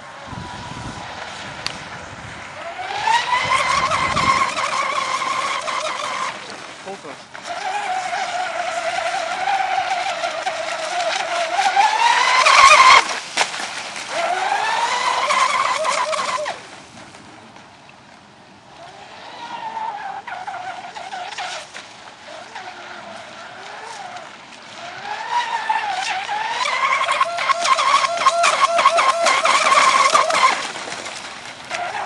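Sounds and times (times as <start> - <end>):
model boat motor whining: 0.0 - 13.2, 14.1 - 16.6, 18.7 - 32.0.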